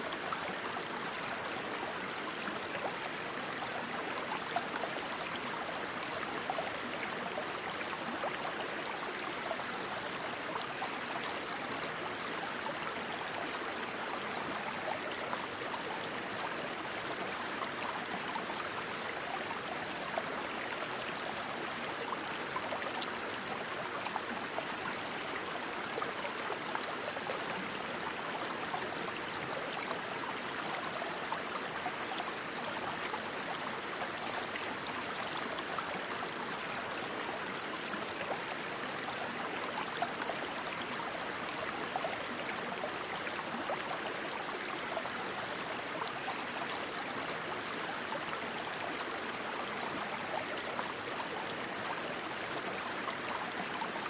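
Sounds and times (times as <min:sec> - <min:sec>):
stream of rushing water: 0:00.0 - 0:54.0.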